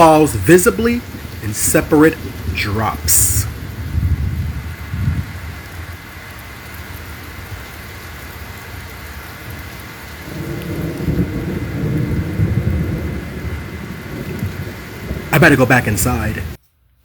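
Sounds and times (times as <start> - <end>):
thunder rumbling: 0.0 - 16.6
steady rain falling: 0.0 - 17.0.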